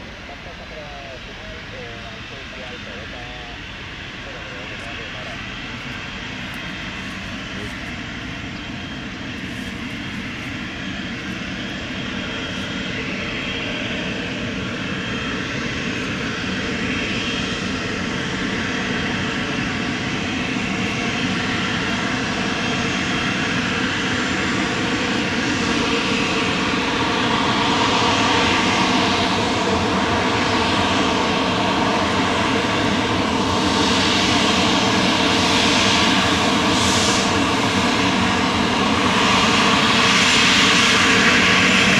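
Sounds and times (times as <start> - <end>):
jet engines whining: 0.0 - 41.9.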